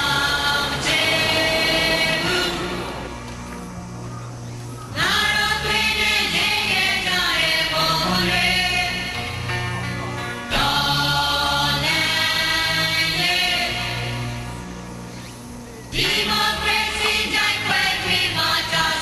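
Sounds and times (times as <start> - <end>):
choir singing: 0.0 - 3.6, 4.9 - 14.6, 15.9 - 19.0
held low notes: 0.0 - 19.0.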